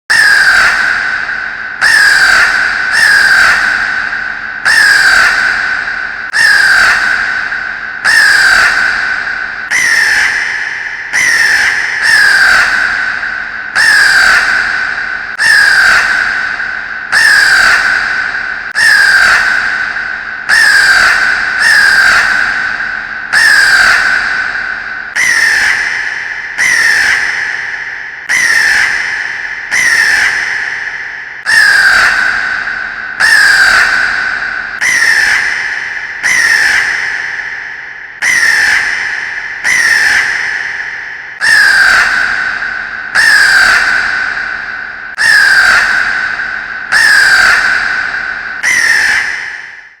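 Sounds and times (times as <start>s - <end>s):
crow cawing: 0.1s - 50.0s.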